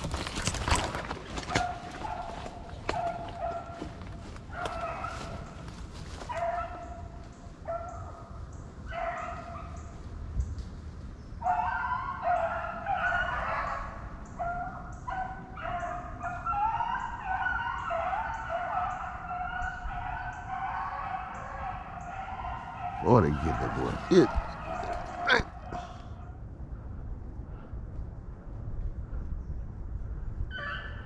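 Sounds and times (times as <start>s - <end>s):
hounds baying: 0.0s - 10.0s, 11.4s - 26.4s.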